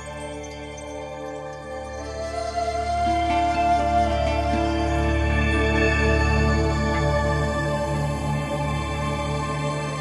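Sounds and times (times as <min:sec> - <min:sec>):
slow new-age instrumental music: 0:00.0 - 0:10.0.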